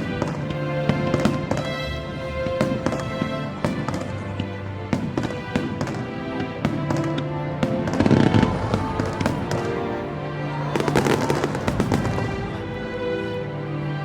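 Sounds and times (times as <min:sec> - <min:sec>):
fireworks bursting and crackling: 0:00.0 - 0:13.3
steady music: 0:00.0 - 0:14.0.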